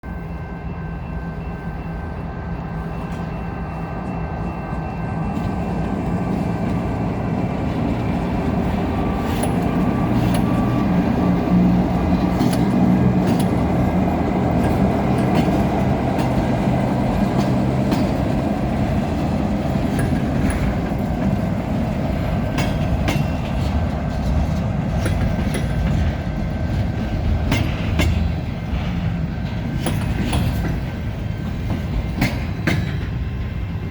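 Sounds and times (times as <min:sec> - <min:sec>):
train engine drone: 0:00.0 - 0:33.9
wheels clicking over rail joints: 0:05.3 - 0:33.6.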